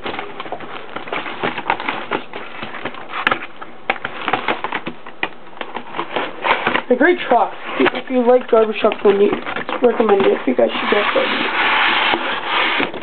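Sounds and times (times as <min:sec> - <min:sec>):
cardboard packaging rustling: 0:00.0 - 0:13.0.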